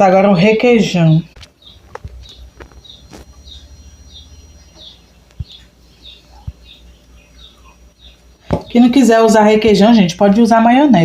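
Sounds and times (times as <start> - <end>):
bird chirping: 0.0 - 9.5.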